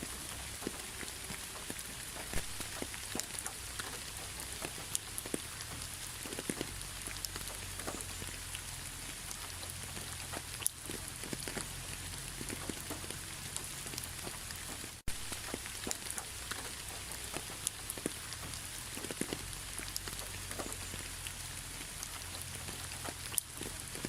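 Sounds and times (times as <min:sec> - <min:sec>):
rain hiss: 0:00.0 - 0:24.0
raindrops pattering: 0:00.0 - 0:24.0.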